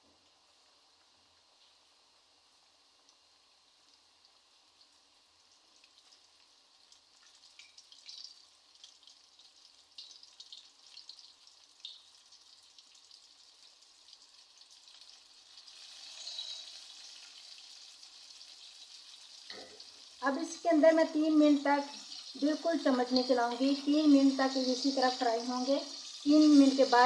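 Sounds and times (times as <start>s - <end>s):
chicken frying in hot oil: 0.0s - 27.0s.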